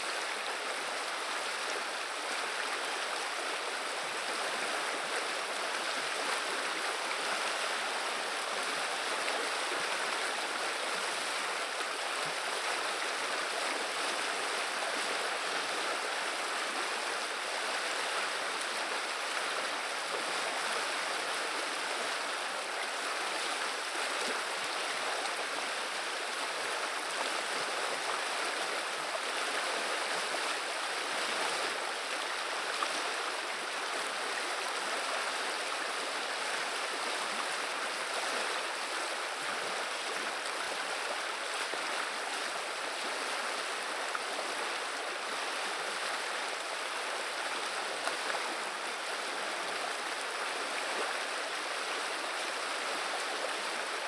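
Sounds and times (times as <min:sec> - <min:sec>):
river water babbling: 0:00.0 - 0:54.0.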